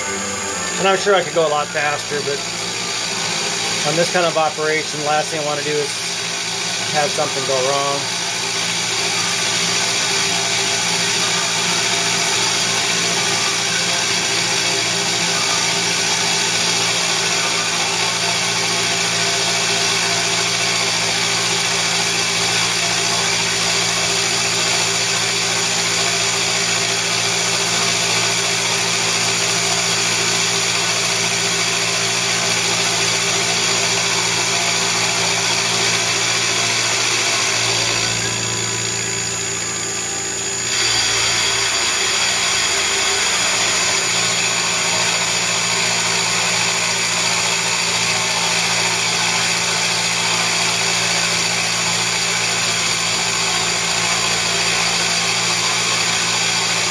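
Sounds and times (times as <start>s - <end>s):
milling machine cutting metal: 0.0s - 56.9s.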